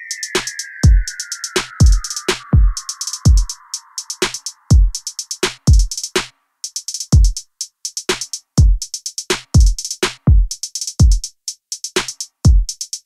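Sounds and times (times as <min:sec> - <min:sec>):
electronic drum machine beat: 0:00.0 - 0:13.0.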